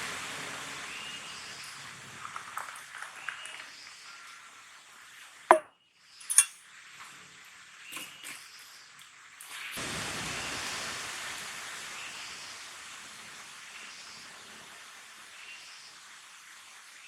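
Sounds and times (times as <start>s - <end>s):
soft rain hiss: 0.0s - 5.5s, 6.6s - 17.0s.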